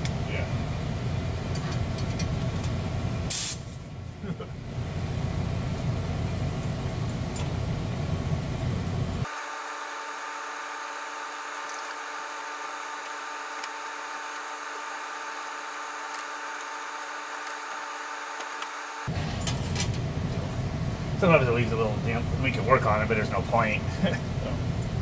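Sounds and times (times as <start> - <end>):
air conditioning unit running: 0.0 - 25.0
steady hum with whining tones: 0.0 - 25.0.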